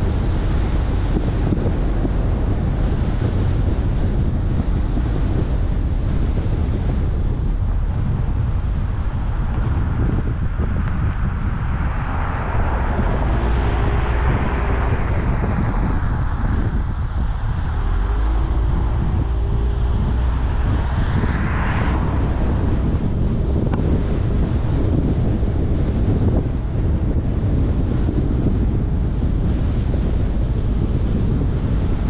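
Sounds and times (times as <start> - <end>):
faint engine hum: 0.0 - 32.0
road rumble: 0.0 - 32.0
wind noise on microphone: 0.0 - 32.0.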